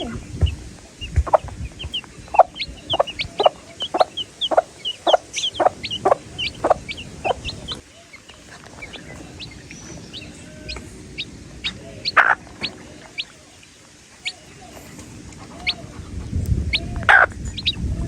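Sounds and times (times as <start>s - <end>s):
baby chicks peeping: 0.0s - 18.0s
low clucking: 0.0s - 18.0s.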